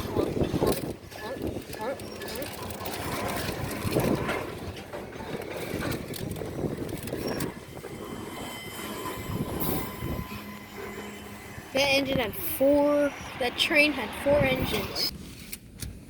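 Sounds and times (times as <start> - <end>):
train wheels on rails: 0.0 - 15.2.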